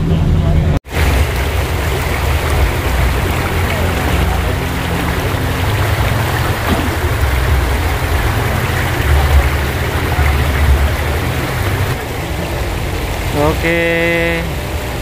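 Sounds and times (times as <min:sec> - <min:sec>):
off-road vehicle engine running: 0:00.0 - 0:15.0
steady hiss: 0:00.9 - 0:15.0.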